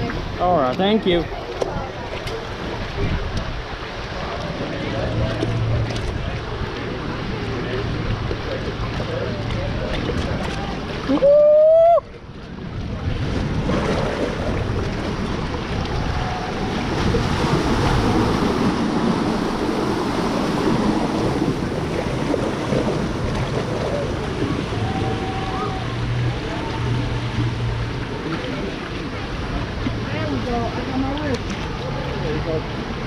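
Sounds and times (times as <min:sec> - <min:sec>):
water rushing and splashing: 0:00.0 - 0:33.0
wind buffeting microphone: 0:01.2 - 0:31.8.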